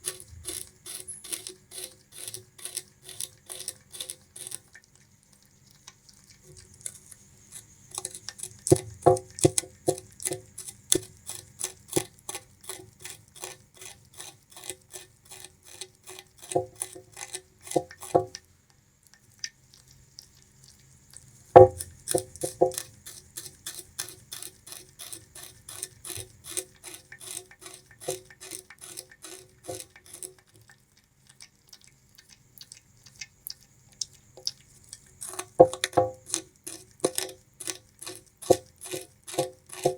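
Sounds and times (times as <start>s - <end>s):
rat gnawing sugarcane: 0.0s - 39.9s.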